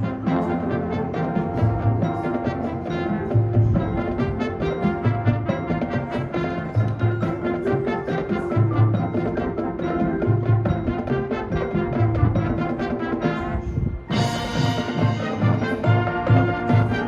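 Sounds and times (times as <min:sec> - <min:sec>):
brass sustaining chords: 0:00.0 - 0:17.0
marching band playing: 0:00.0 - 0:17.0.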